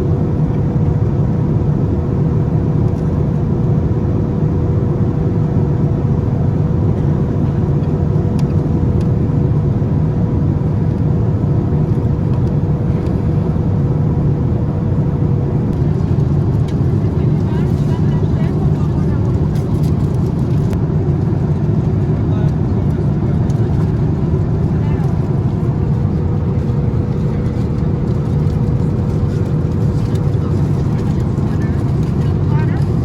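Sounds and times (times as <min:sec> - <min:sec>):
aircraft engine and airflow noise: 0:00.0 - 0:33.0.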